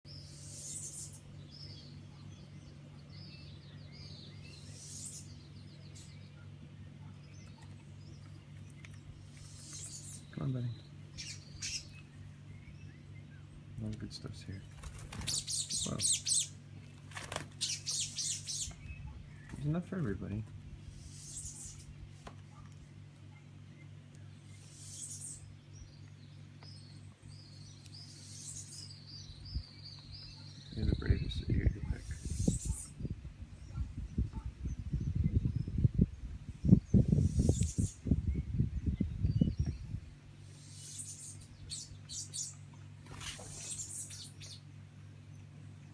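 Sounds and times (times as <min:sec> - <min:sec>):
small birds chirping and trilling: 0:00.0 - 0:45.9
steady low hum: 0:00.1 - 0:45.9.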